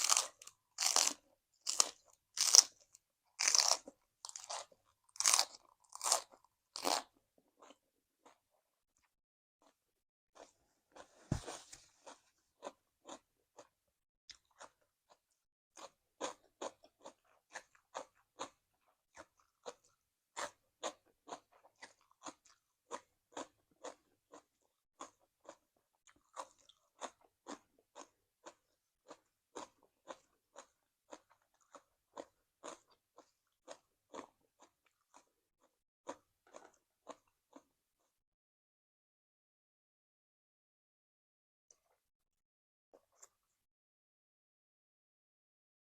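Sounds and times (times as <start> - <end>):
crunchy chewing of vegetables: 0.0 - 38.2.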